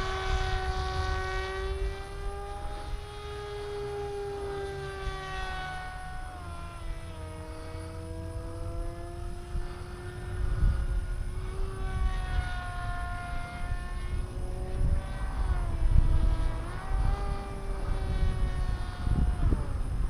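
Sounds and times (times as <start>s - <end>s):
motor and propeller whining: 0.0s - 20.0s.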